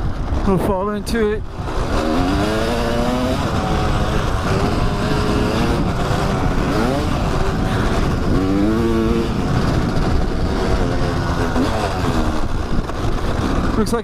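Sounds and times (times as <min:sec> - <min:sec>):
dirt bike engine revving: 0:00.0 - 0:14.0
steady low rumble: 0:00.0 - 0:14.0.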